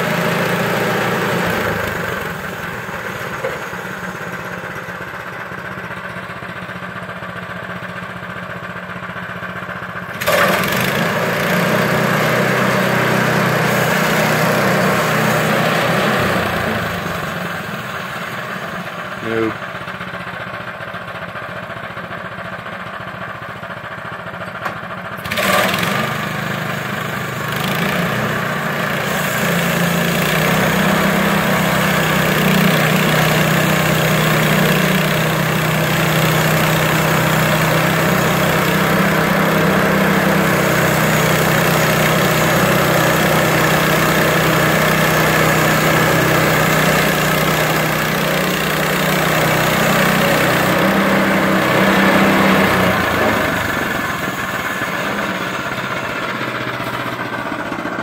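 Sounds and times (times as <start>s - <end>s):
sawmill engine revving: 0.0s - 8.4s, 9.4s - 20.4s, 24.8s - 58.0s.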